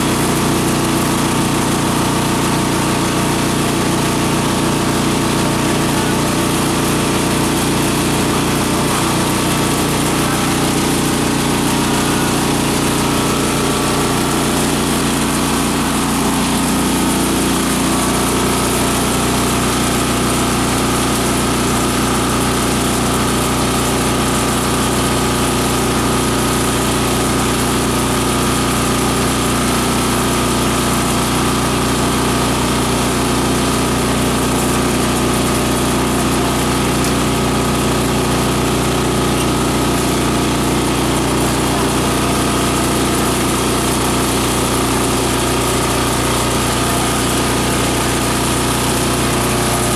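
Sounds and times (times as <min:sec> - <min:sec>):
shredder machine drone: 0:00.0 - 0:49.9.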